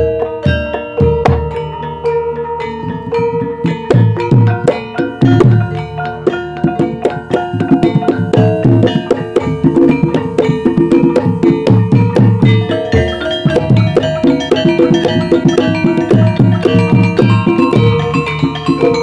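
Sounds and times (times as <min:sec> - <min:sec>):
hand drum strokes: 0:00.0 - 0:19.0
ringing metallophone melody: 0:00.0 - 0:19.0.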